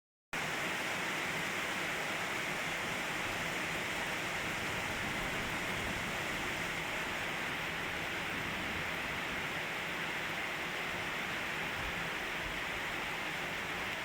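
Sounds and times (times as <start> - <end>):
rain falling: 0.4 - 14.0.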